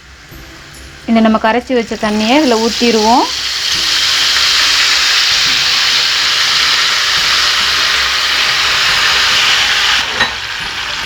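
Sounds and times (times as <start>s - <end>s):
oil hissing and sizzling: 0.0s - 11.0s.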